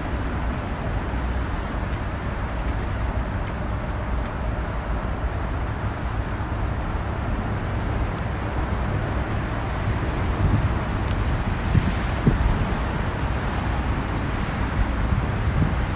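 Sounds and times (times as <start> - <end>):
outdoor background rumble: 0.0 - 15.9.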